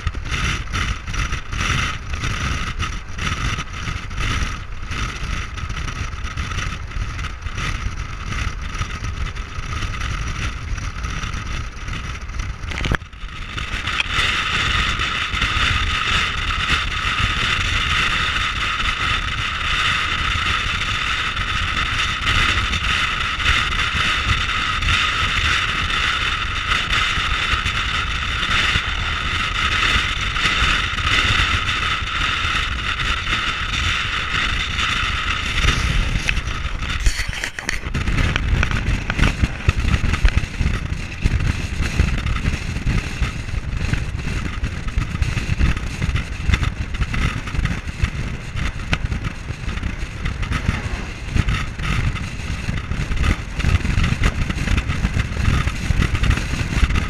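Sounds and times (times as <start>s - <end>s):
road and tyre noise: 0.0s - 57.0s
wind rushing over microphone: 0.0s - 57.0s.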